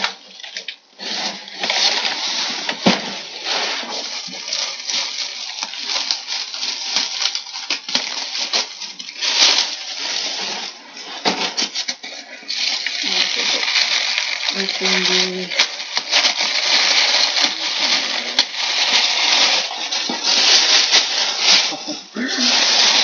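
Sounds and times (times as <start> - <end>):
paper wrapping crinkling: 0.0 - 23.0.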